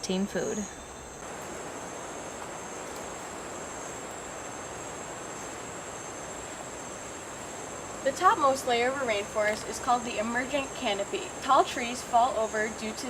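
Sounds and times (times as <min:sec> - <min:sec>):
insects droning: 0:00.0 - 0:13.0
steady hiss: 0:00.0 - 0:13.0.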